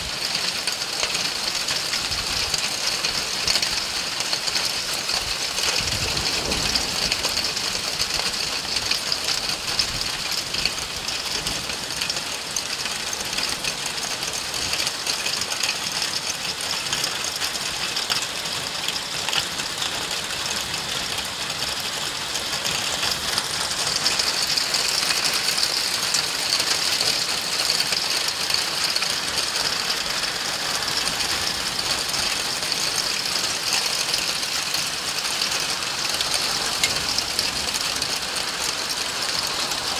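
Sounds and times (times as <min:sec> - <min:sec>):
heavy rain and hail falling: 0:00.0 - 0:39.9.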